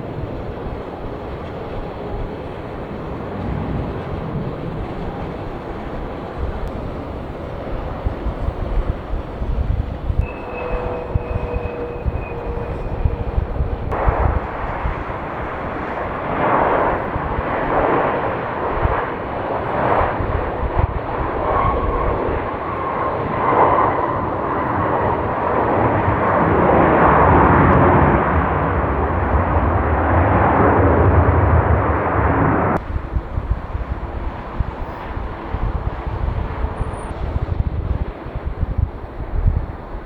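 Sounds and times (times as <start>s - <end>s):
jet engine whine: 0.0s - 40.0s
jet engines roaring: 0.0s - 40.0s.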